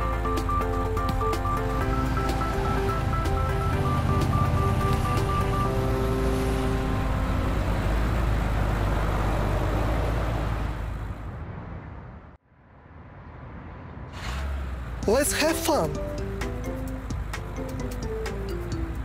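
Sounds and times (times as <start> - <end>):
cartoon car engine and road rush: 0.0 - 19.0.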